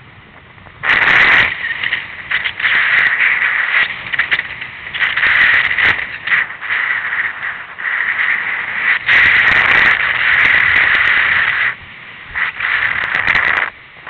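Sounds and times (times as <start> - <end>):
breaking surf: 0.0 - 14.0
wind on microphone: 0.0 - 14.0.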